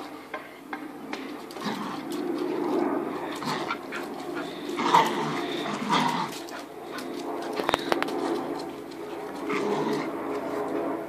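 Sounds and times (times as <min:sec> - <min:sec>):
dogs growling: 0:01.2 - 0:11.0.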